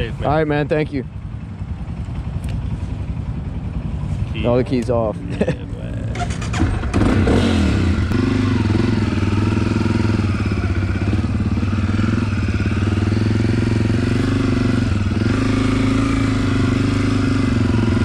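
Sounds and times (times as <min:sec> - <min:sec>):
vehicle engine idling: 0:00.0 - 0:07.2, 0:07.8 - 0:15.8.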